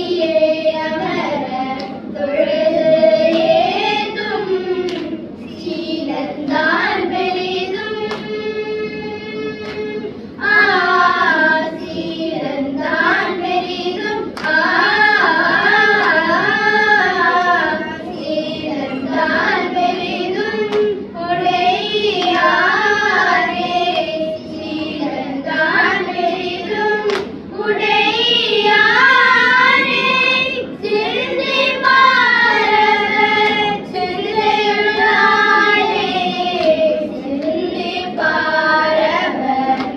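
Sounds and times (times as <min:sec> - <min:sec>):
children singing a hymn: 0:00.0 - 0:39.9.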